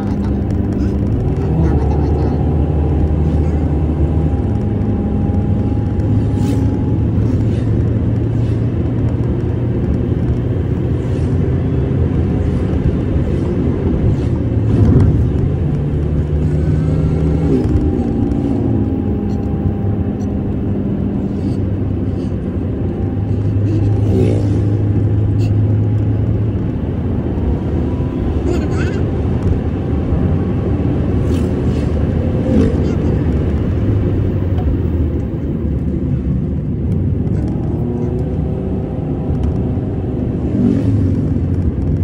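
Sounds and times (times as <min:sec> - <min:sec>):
car engine hum: 0:00.0 - 0:42.0
tyre and road noise: 0:00.0 - 0:42.0.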